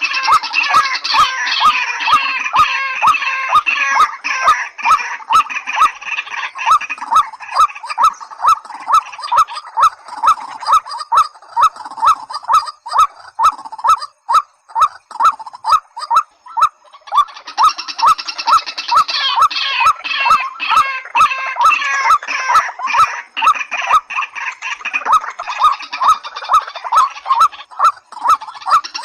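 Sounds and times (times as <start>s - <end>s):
rail bird calling: 0.0s - 29.0s.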